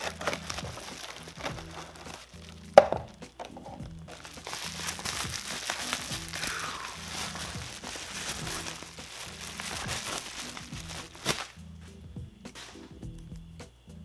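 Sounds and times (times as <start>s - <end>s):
bubble wrap bag crinkling: 0.0s - 11.7s.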